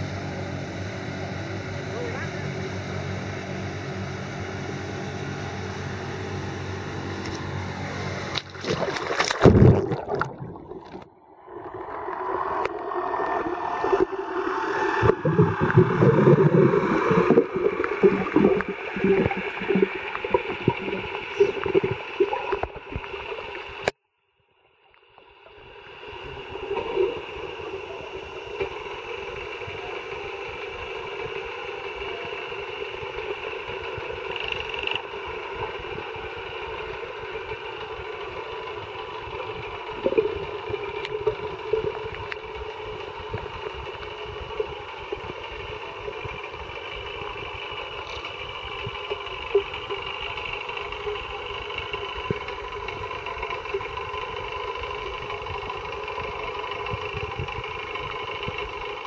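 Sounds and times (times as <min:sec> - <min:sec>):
boat engine drone underwater: 0:00.0 - 0:59.0.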